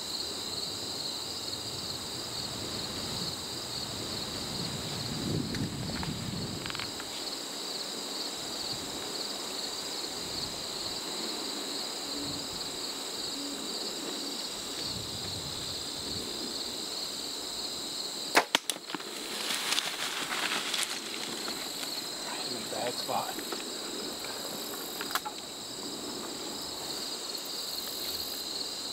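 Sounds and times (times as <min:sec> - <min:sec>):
crickets and insects chirping: 0:00.0 - 0:28.9.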